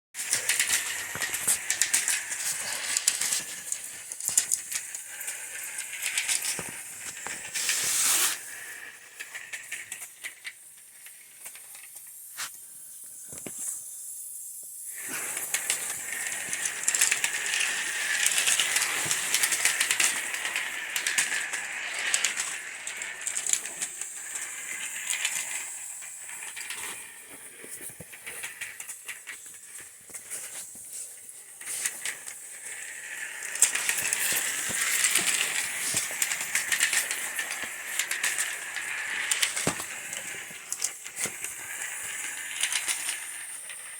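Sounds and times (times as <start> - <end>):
small clicks and rattles: 0.2 - 7.8, 8.5 - 12.3, 15.0 - 43.9
steam hissing: 0.2 - 43.9.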